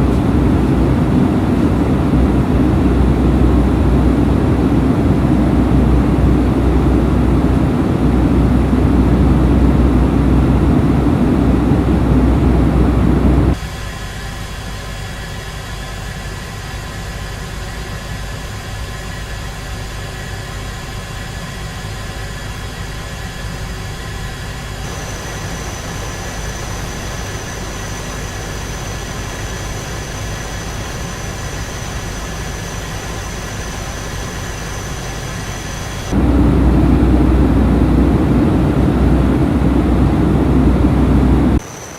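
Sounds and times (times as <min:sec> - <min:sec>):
aircraft engines droning: 0:00.0 - 0:41.9
high steady whine: 0:00.0 - 0:41.9.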